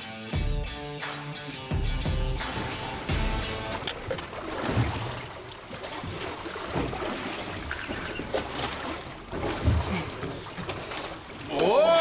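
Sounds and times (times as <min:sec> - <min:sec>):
water lapping against boat hull: 0:02.3 - 0:12.0.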